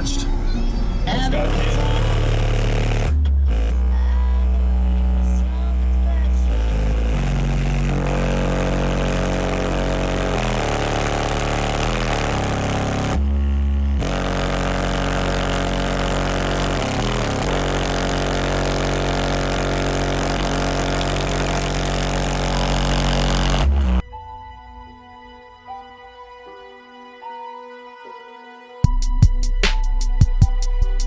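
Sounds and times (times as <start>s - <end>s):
subwoofer playing loud bass tones: 0.0s - 24.0s, 28.9s - 31.0s.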